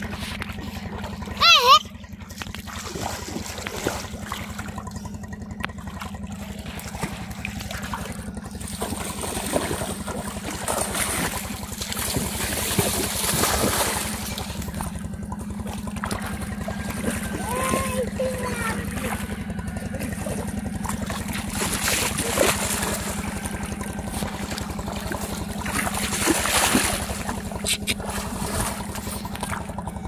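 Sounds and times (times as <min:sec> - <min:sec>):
low rhythmic hum: 0:00.0 - 0:30.0
water splashing and sloshing: 0:00.0 - 0:30.0.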